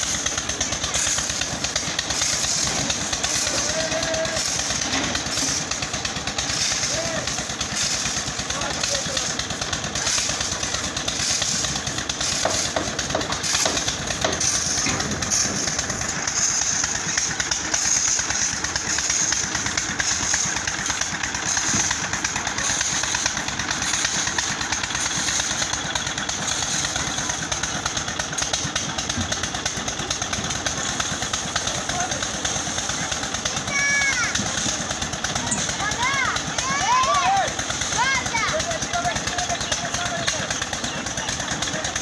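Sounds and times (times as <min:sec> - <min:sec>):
concrete mixer engine running: 0:00.0 - 0:42.0.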